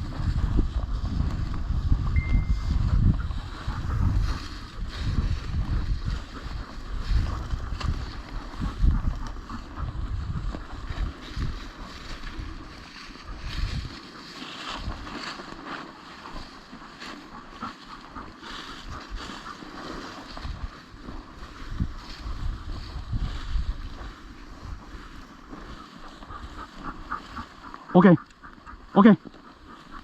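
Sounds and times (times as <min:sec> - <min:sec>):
wind buffeting microphone: 0:00.0 - 0:15.4, 0:16.1 - 0:28.9
footsteps through dry vegetation: 0:00.0 - 0:30.0.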